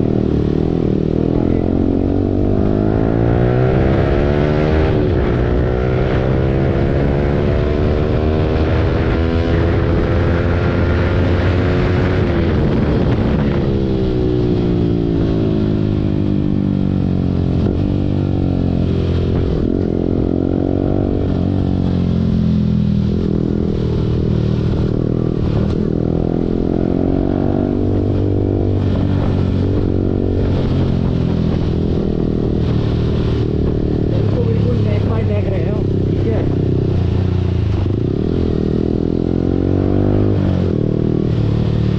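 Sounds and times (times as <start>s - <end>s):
motorcycle engine revving in traffic: 0.0s - 41.9s.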